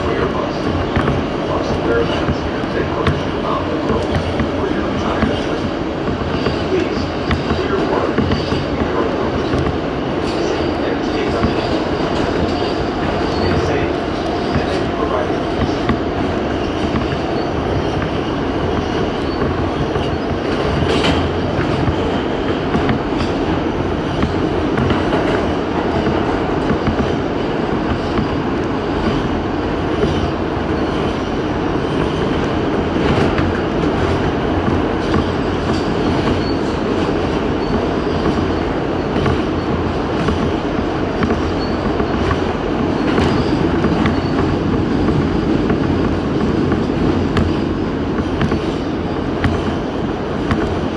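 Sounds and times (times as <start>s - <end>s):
train wheels rumbling on rails: 0.0s - 50.9s
wheels clicking over rail joints: 0.0s - 50.9s.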